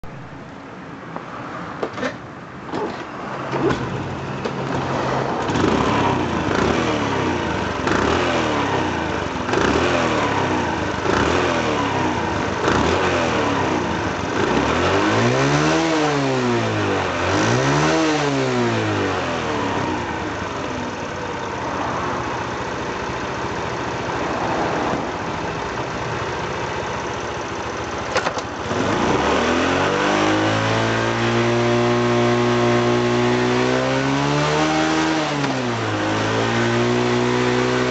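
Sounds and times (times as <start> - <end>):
motorcycle engine revving and idling: 2.8 - 37.9.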